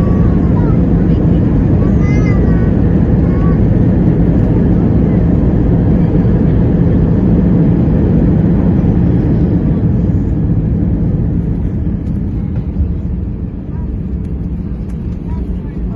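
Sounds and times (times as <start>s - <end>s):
jet landing rumble: 0.0s - 15.9s.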